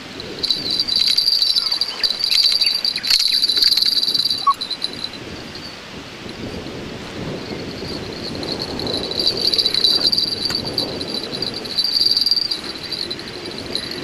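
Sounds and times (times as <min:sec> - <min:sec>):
insects chirring: 0:00.0 - 0:14.0
low background rush: 0:00.0 - 0:14.0.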